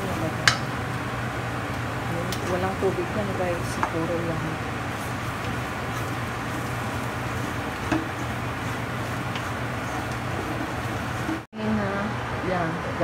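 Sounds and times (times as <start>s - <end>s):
pot cooking hum and hiss: 0.0s - 11.5s.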